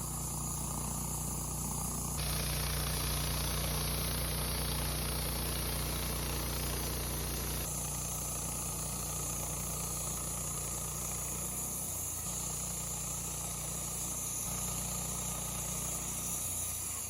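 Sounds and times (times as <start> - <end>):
bandsaw mill engine running: 0.0 - 17.0.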